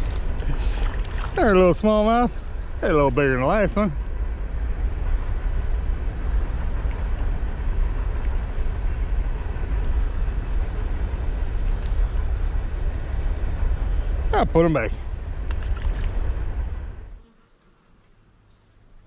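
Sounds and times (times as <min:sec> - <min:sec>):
wind buffeting microphone: 0:00.0 - 0:17.2
outdoor hiss: 0:00.0 - 0:19.0.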